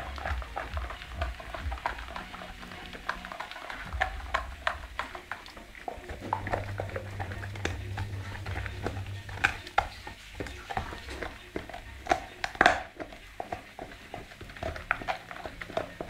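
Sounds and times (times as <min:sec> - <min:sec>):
dog gnawing a bone: 0:00.0 - 0:16.0.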